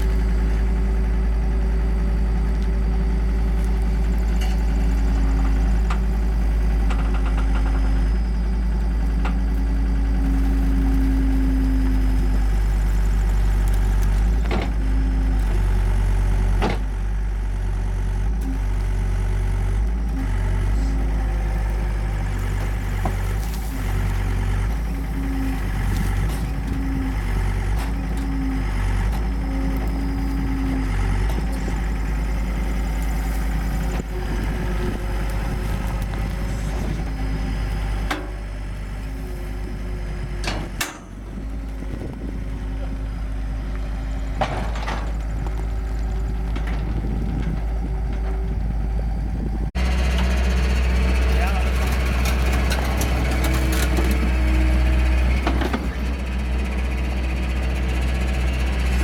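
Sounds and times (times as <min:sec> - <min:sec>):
loader diesel engine: 0:00.0 - 0:59.0.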